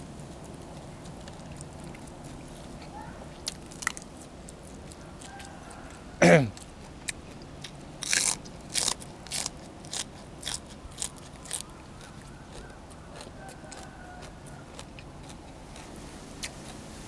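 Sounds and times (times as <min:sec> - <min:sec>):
crunching and chewing food: 0:00.0 - 0:17.0.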